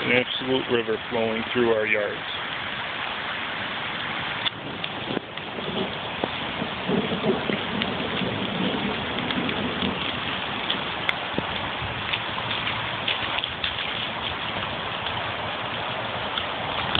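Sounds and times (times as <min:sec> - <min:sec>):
floodwater hissing: 0:00.0 - 0:16.9
small ticks and splashes: 0:00.0 - 0:16.9.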